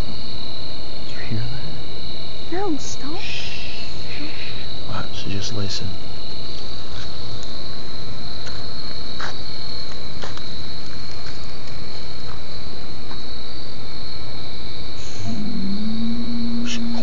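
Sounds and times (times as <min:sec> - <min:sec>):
constant hiss: 0:00.0 - 0:17.0
night insects trilling: 0:00.0 - 0:17.0.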